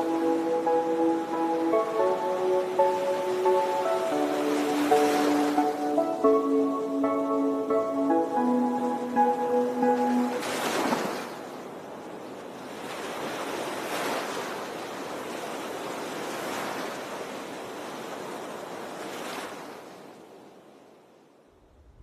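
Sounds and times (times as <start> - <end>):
ocean waves washing in: 0.0 - 21.4.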